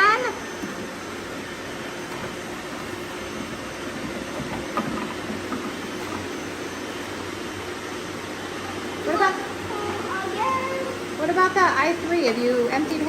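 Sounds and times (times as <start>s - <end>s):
robot vacuums whirring: 0.0s - 13.0s.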